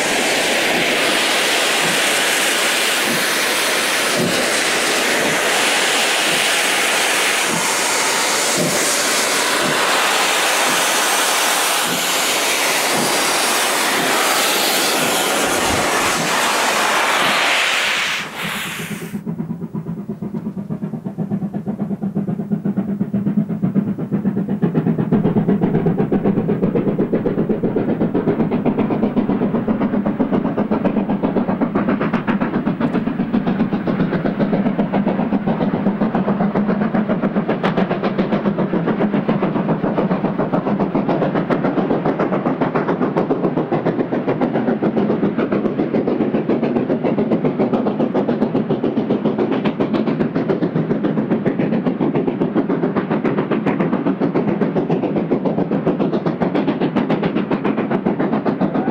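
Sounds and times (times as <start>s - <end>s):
steam locomotive exhaust beats: 0.0s - 58.9s.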